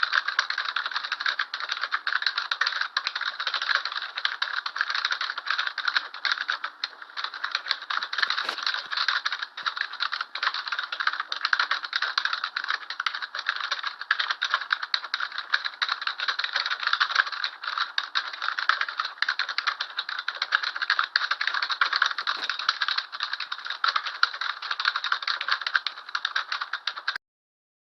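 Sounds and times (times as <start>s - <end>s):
rapid mechanical clicking: 0.0s - 27.2s.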